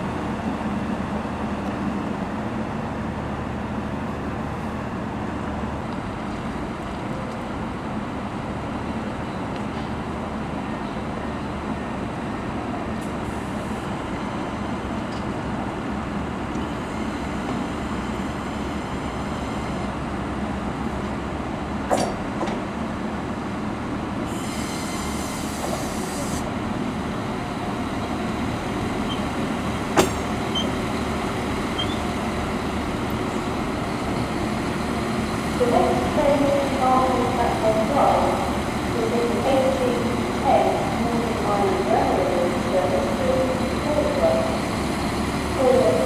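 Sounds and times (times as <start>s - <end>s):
diesel train rumbling: 0.0s - 46.0s.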